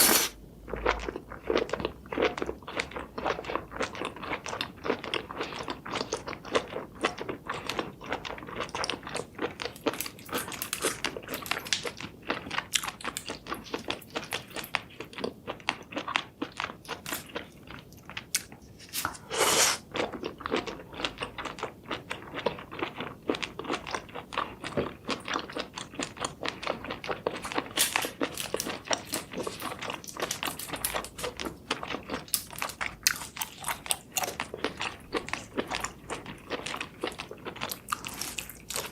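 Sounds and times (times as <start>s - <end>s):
person chewing seafood: 0.0s - 38.9s.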